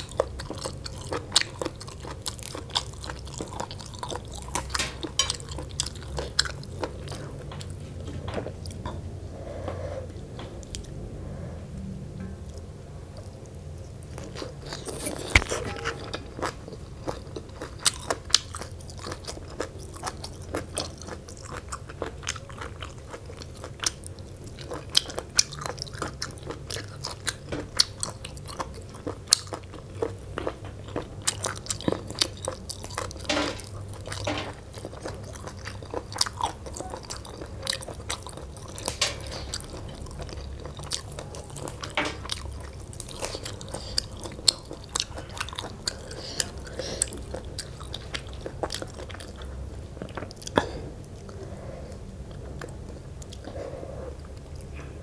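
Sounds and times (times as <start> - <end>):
chewing crunchy leafy greens: 0.0 - 7.9, 13.2 - 51.4.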